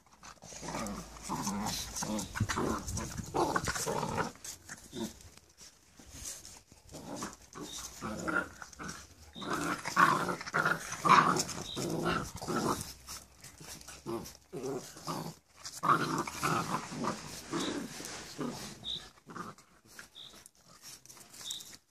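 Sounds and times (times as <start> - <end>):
dogs growling: 0.0 - 5.3, 6.8 - 20.0.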